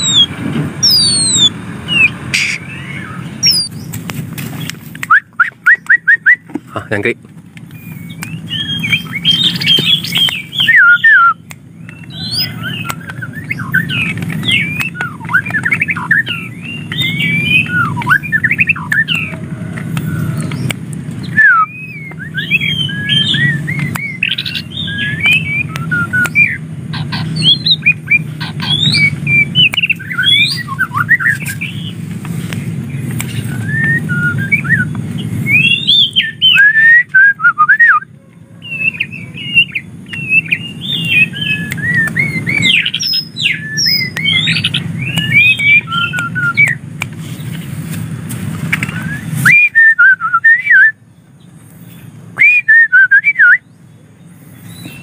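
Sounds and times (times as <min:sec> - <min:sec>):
bird singing whistled song: 0:00.0 - 0:03.9, 0:05.0 - 0:06.5, 0:07.7 - 0:19.4, 0:20.0 - 0:32.0, 0:32.9 - 0:46.8, 0:48.8 - 0:53.9, 0:54.5 - 0:55.0.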